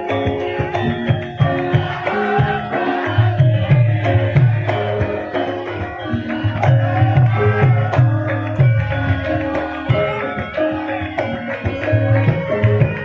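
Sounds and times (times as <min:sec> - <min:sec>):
ringing metallophone notes: 0:00.0 - 0:13.0.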